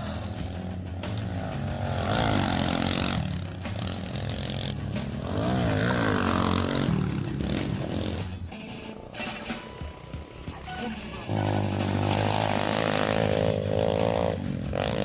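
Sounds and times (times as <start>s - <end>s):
small motorbike engines revving: 0.0s - 8.5s, 11.3s - 15.0s.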